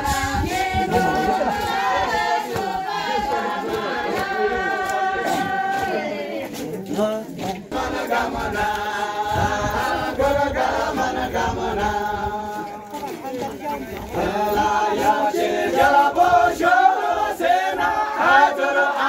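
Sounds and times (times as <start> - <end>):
group singing unaccompanied: 0.0 - 19.0.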